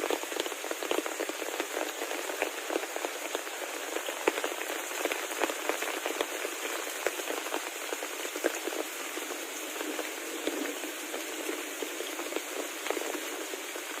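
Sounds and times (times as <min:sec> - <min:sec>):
heavy rain falling: 0:00.0 - 0:14.0
raindrops tapping a surface: 0:00.0 - 0:14.0.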